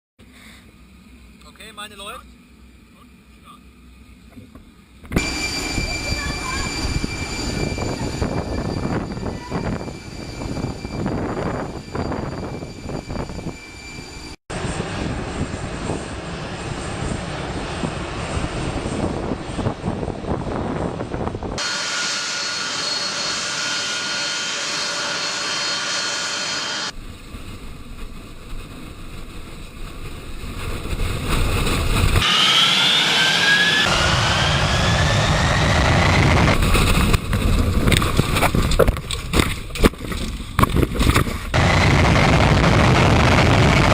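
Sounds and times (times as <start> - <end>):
jet engines running: 0.6 - 43.9
jet engine whine spooling up: 0.7 - 39.4, 40.4 - 43.9.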